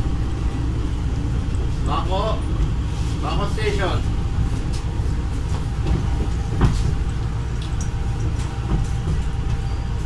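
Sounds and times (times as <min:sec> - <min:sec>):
train rumble from inside carriage: 0:00.0 - 0:10.0.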